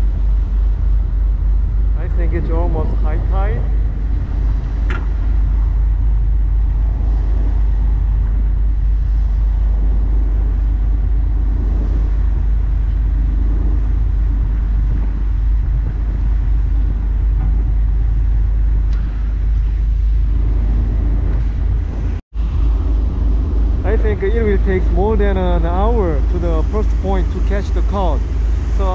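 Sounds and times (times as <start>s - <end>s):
boat engine rumbling: 0.0s - 28.9s
water rushing along hull: 0.0s - 28.9s.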